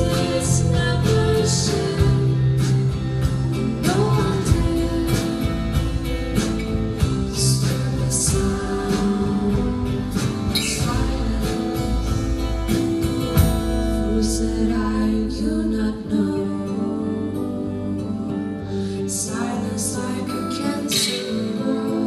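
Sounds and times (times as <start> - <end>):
person singing: 0.0 - 12.7, 13.9 - 22.0
guitar: 0.0 - 22.0.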